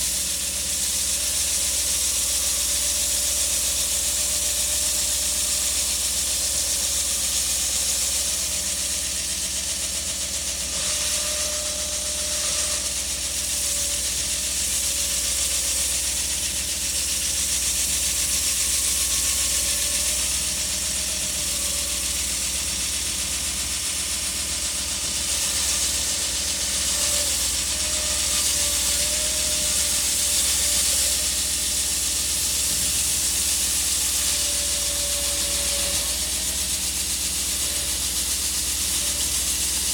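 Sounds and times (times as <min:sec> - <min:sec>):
concrete saw cutting concrete: 0:00.0 - 0:39.9.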